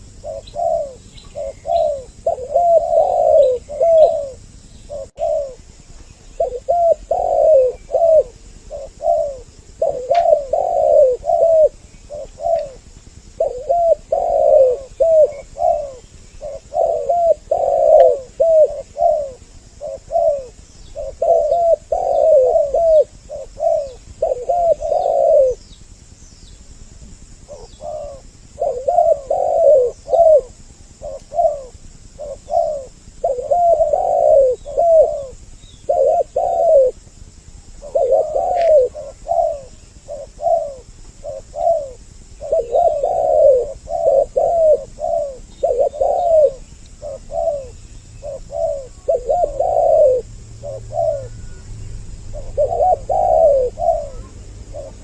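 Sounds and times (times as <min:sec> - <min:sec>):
faint small bird chirps: 0:00.0 - 0:26.8, 0:27.4 - 0:55.0
doves cooing: 0:00.0 - 0:55.0.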